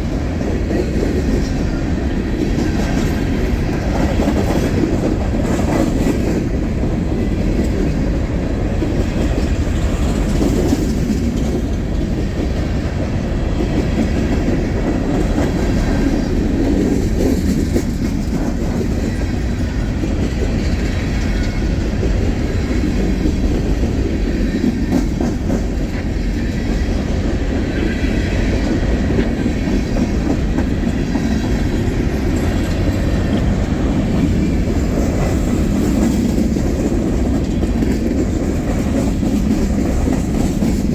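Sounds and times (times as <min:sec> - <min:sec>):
freight train wheels rumbling on rails: 0:00.0 - 0:40.9.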